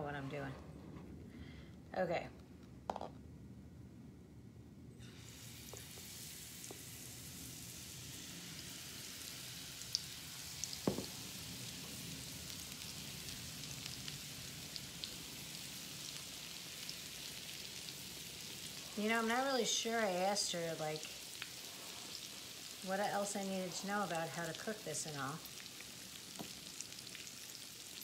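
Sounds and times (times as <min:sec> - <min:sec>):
batter sizzling in hot oil: 0:05.0 - 0:28.0.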